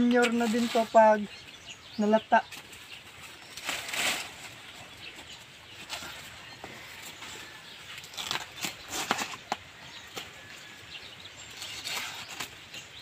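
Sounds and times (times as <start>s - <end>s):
dry leaves rustling and crackling: 0.0s - 1.3s, 2.1s - 13.0s.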